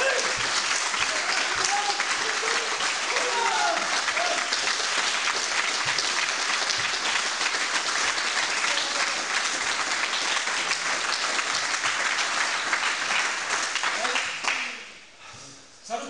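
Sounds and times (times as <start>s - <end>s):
people clapping: 0.0s - 15.0s.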